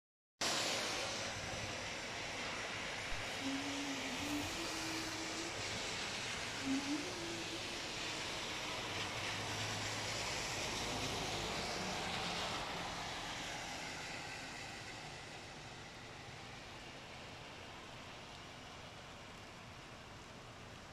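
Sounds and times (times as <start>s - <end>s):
rain falling on wet street: 0.4s - 20.9s.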